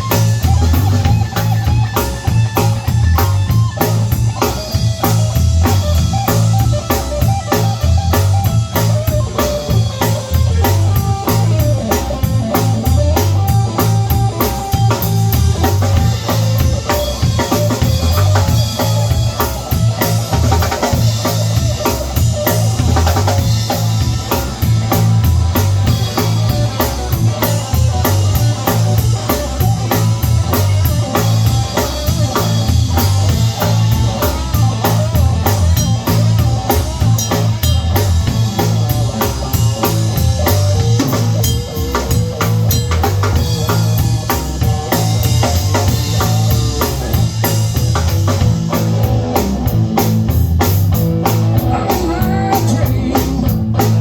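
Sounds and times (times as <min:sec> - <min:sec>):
blues band playing: 0:00.0 - 0:54.0
drum kit beat: 0:00.0 - 0:54.0
heavy bass line: 0:00.0 - 0:54.0.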